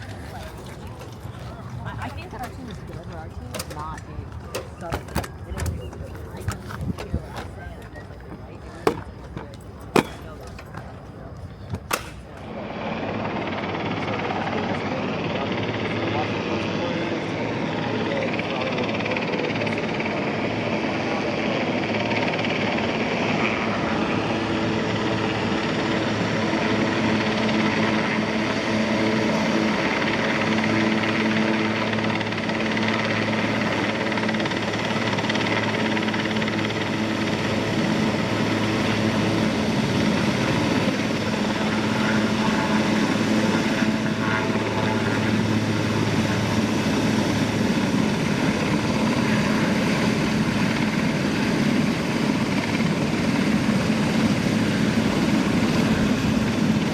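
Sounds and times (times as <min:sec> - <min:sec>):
helicopter rotor and turbine drone: 0:00.0 - 0:56.9.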